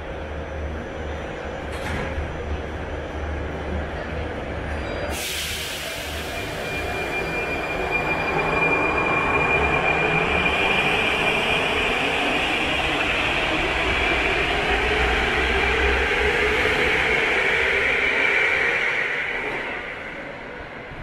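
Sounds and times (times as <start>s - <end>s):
high whine of train: 0.0s - 21.0s.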